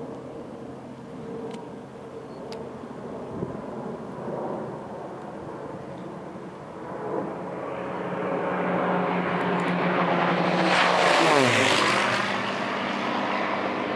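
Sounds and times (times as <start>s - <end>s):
propeller plane passing overhead: 0.0s - 13.9s.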